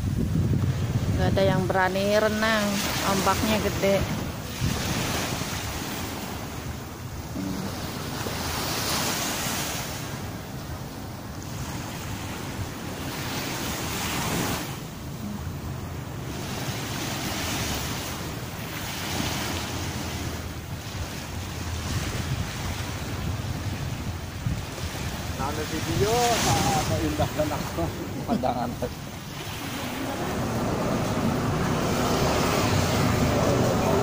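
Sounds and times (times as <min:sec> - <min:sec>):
sea waves breaking on a beach: 0:00.0 - 0:34.0
wind buffeting the microphone: 0:00.0 - 0:34.0.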